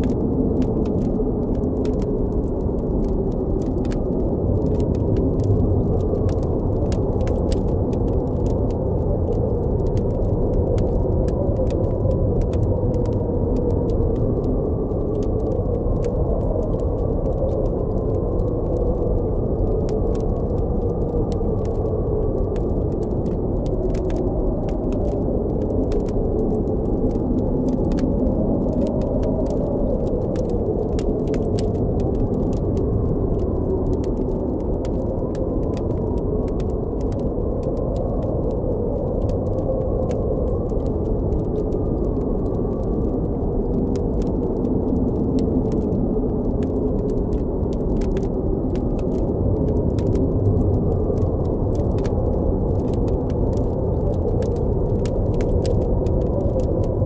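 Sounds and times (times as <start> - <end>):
blizzard wind howling: 0.0 - 57.0
campfire crackling: 0.0 - 57.0.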